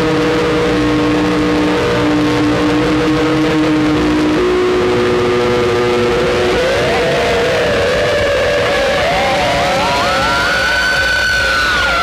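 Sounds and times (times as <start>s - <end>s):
harsh noise music: 0.0s - 12.0s.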